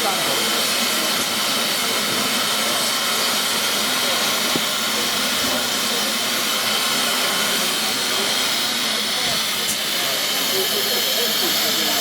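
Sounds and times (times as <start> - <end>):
steam hissing from locomotive: 0.0 - 12.0.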